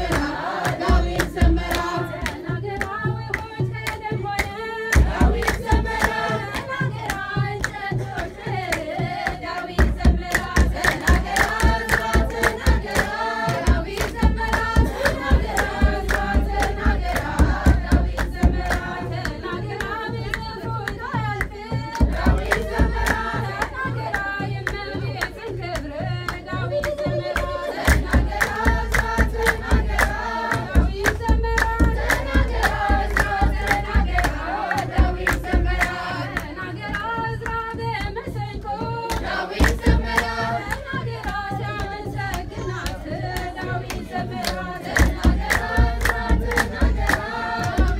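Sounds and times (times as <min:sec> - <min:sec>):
drum beating steady rhythm: 0:00.0 - 0:47.9
hands clapping: 0:00.0 - 0:47.9
women singing a hymn: 0:00.0 - 0:47.9.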